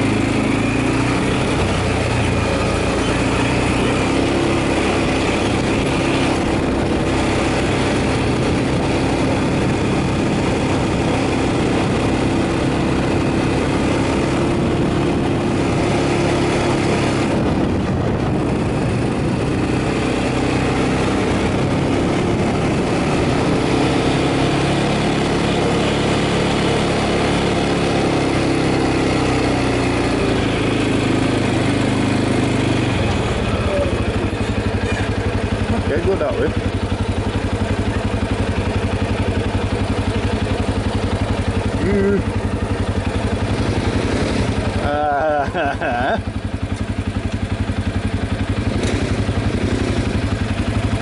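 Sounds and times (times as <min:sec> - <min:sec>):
quad engine running: 0:00.0 - 0:51.0.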